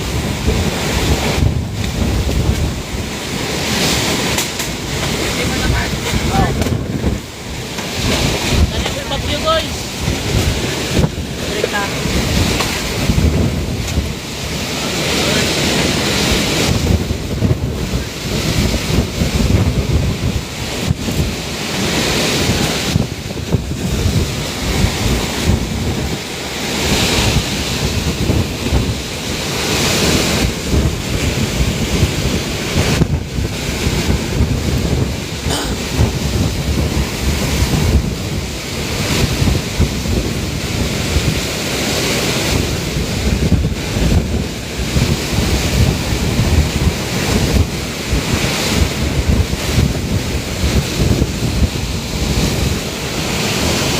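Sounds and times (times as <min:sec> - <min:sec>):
driving rain: 0:00.0 - 0:53.9
roaring wind: 0:00.0 - 0:53.9
wind buffeting microphone: 0:00.0 - 0:53.9.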